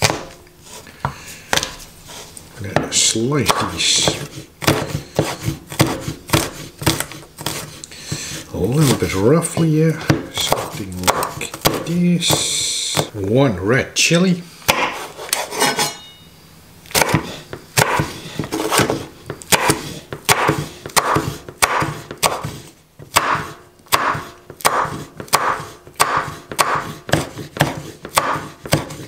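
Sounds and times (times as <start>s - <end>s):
knife chopping on wooden board: 0.0s - 0.4s, 2.7s - 13.1s, 14.7s - 15.9s, 16.9s - 29.0s.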